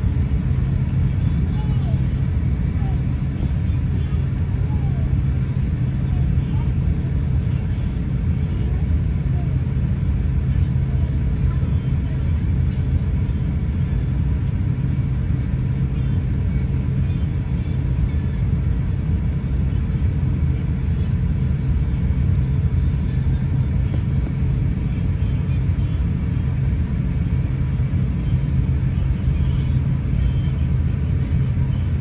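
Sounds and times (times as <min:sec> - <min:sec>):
aircraft cabin rumble: 0:00.0 - 0:32.0
faint jet engine hum: 0:00.0 - 0:32.0.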